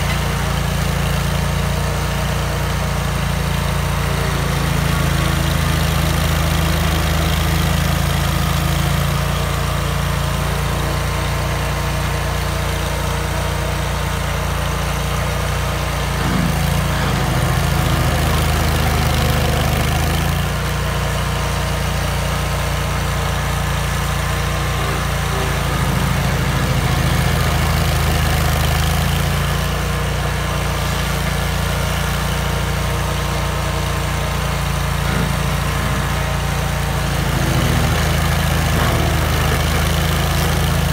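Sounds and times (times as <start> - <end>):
cutter wheel grinding stump: 0.0 - 40.9
stump grinder engine running: 0.0 - 40.9.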